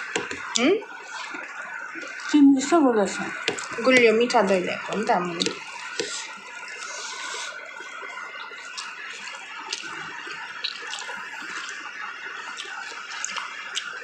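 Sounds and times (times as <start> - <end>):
wet chewing and smacking: 0.0 - 2.4, 3.1 - 14.0.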